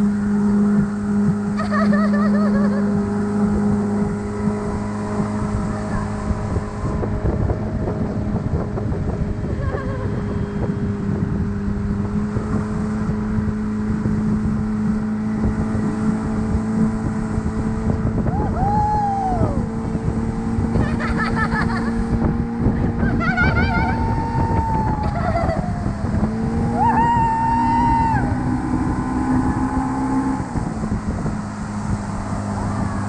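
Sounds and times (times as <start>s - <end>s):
motorboat engine running: 0.0s - 33.0s
wind rush on microphone: 0.0s - 33.0s.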